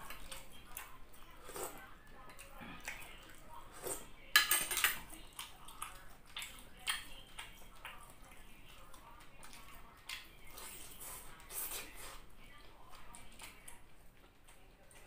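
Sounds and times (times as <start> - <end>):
chewing and wet smacking: 0.0 - 4.3, 5.0 - 15.0.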